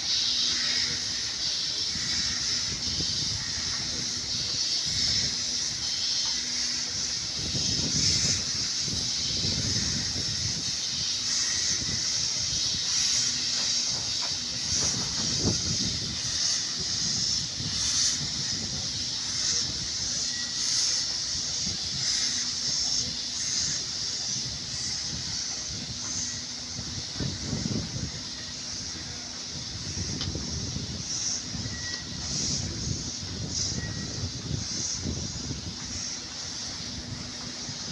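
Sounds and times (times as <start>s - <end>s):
low rumble of train: 0.0s - 37.9s
steam locomotive hissing: 0.0s - 37.9s.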